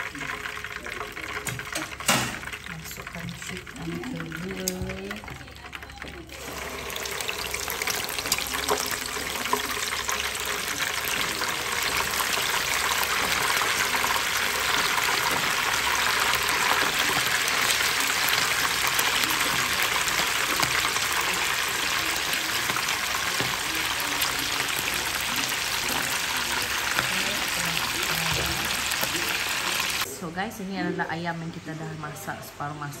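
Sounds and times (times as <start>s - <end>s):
chicken sizzling in hot oil: 0.0s - 30.1s.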